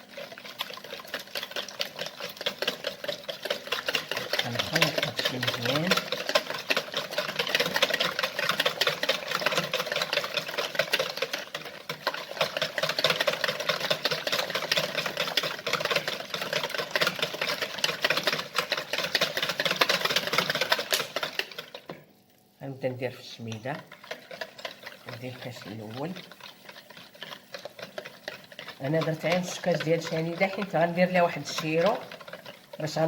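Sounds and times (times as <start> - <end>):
electric mixer whirring: 0.0 - 22.0, 23.4 - 33.0.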